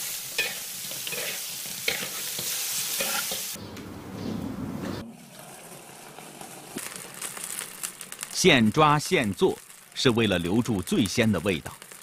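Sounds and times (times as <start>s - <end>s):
food sizzling in a wok: 0.0s - 3.6s, 5.1s - 12.0s.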